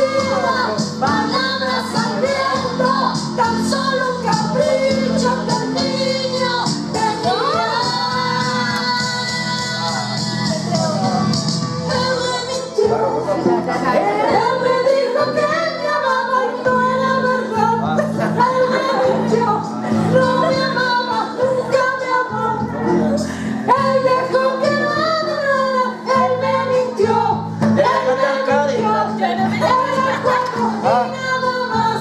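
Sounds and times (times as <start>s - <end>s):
person singing with accompaniment: 0.0s - 32.0s.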